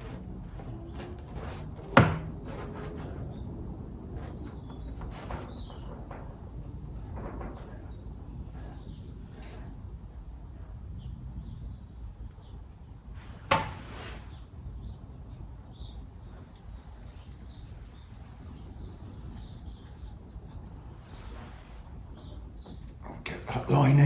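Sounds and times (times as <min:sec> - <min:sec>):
small birds chirping: 0:00.0 - 0:13.5, 0:14.1 - 0:24.0.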